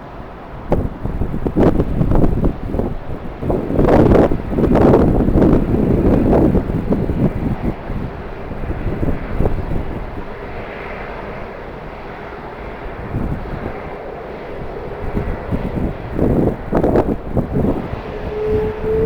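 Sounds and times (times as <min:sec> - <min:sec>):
jet engines running: 0:00.0 - 0:19.0
wind buffeting microphone: 0:00.0 - 0:19.0.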